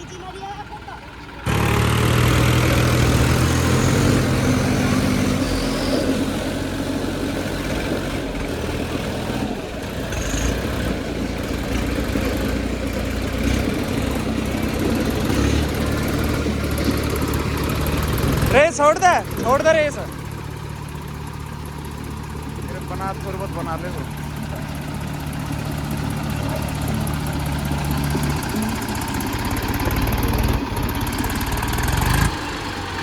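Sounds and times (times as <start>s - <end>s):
tractor engines running under load: 0.0s - 33.0s.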